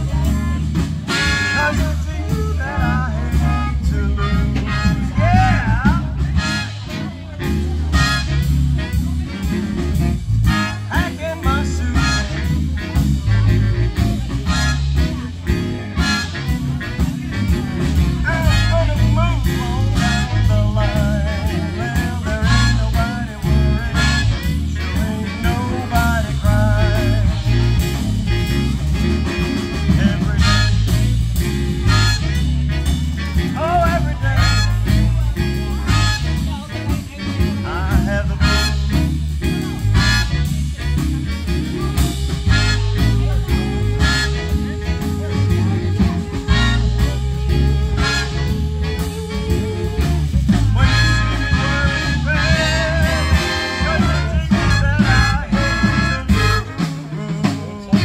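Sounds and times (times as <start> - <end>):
swing band playing: 0.0 - 58.0.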